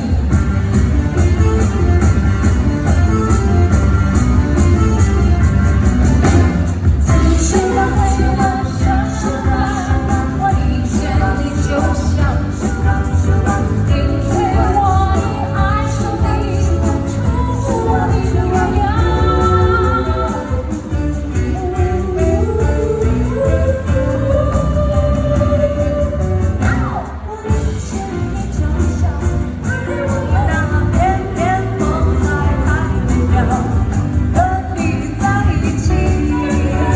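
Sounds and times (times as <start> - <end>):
small jazz band playing: 0.0 - 36.9
female vocal trio singing: 7.1 - 36.9.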